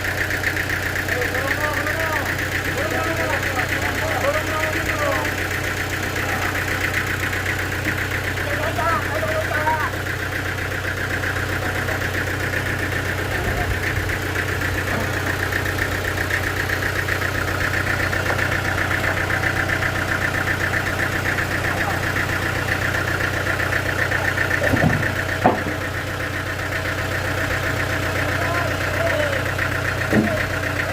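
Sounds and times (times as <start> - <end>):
sawmill machinery humming: 0.0 - 30.9.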